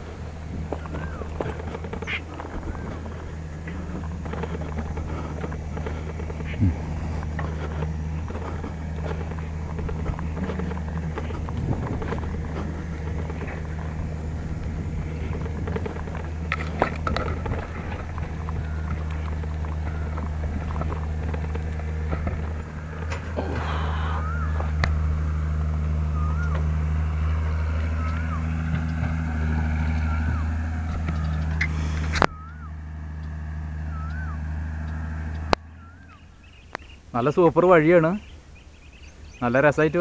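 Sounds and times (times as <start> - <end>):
bicycle rattling on dirt track: 0.0 - 34.2
steady low drone: 0.0 - 37.3.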